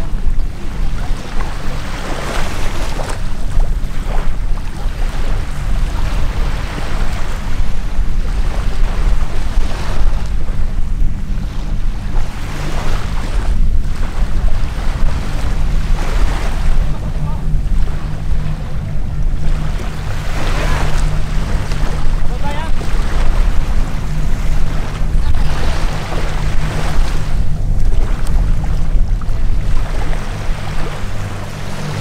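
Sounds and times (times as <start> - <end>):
light aircraft engines droning: 0.0 - 32.0
wind on microphone: 0.0 - 32.0.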